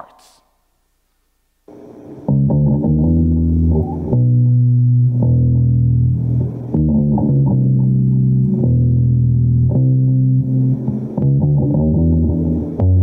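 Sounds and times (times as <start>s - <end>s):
electric bass guitar notes: 2.2s - 13.0s.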